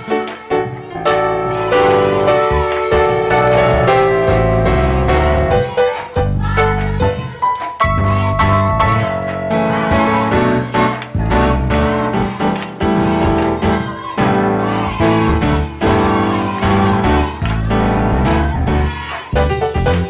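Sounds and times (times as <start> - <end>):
keyboard music with steady beat: 0.0 - 20.0.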